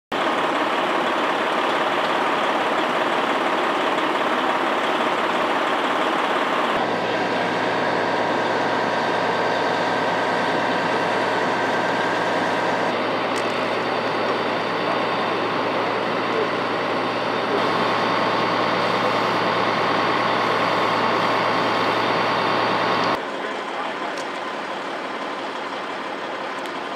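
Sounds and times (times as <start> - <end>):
vehicle engines idling: 0.1 - 26.9.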